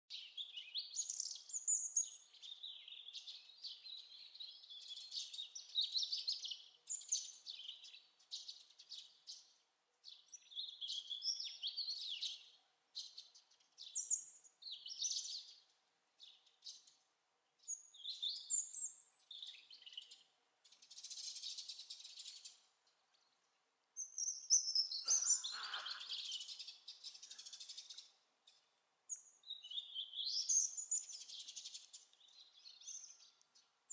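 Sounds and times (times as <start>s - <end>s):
robin singing: 0.1s - 17.0s, 17.6s - 33.9s.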